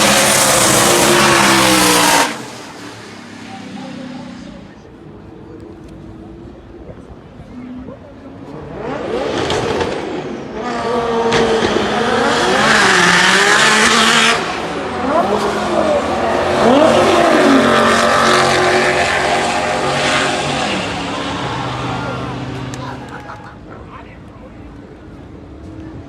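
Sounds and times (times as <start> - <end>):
drag car engines revving: 0.0 - 26.0.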